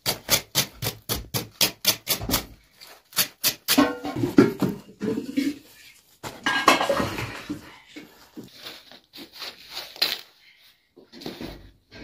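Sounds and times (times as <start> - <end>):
flatbreads rustling and knocking: 0.0 - 9.7.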